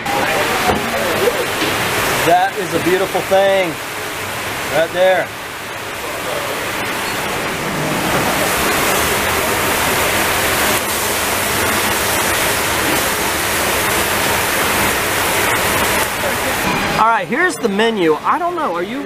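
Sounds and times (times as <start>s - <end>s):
burgers sizzling on a grill: 0.0s - 19.0s.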